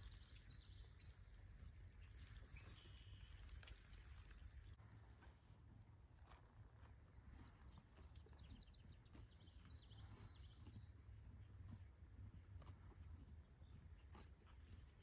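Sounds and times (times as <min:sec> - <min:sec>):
faint low outdoor rumble: 0:00.0 - 0:15.0.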